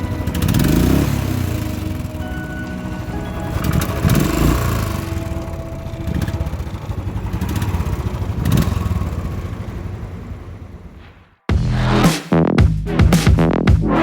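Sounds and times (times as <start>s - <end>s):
motorcycle engine revving: 0.0s - 12.1s.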